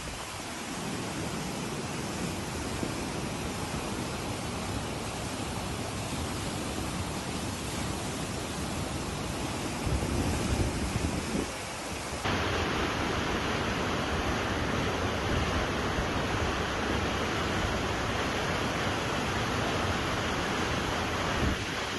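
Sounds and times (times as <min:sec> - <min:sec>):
floodwater rushing: 0:00.0 - 0:21.9
storm wind: 0:00.0 - 0:21.9.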